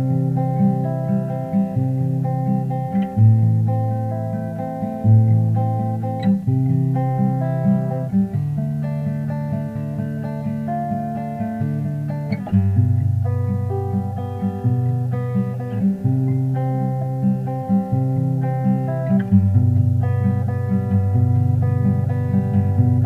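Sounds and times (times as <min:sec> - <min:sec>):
plucked guitar and bass music: 0:00.0 - 0:23.0.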